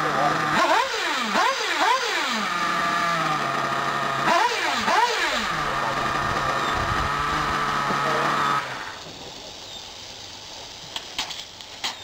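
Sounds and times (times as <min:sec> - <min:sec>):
model car engine idling: 0:00.0 - 0:12.0.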